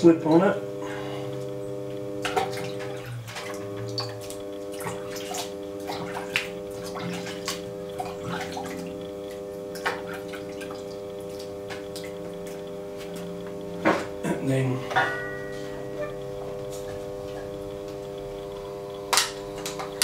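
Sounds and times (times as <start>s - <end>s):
potter's wheel humming: 0.0s - 20.0s.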